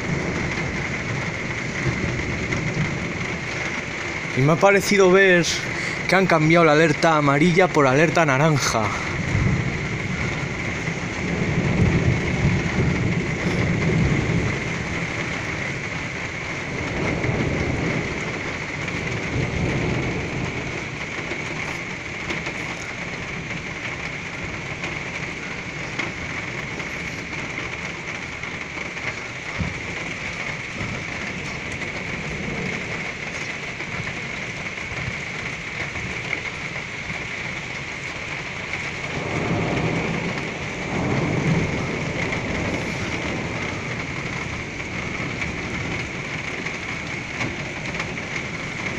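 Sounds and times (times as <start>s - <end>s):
thunder rumbling: 0.0s - 48.9s
torrential rain pouring: 0.0s - 48.9s.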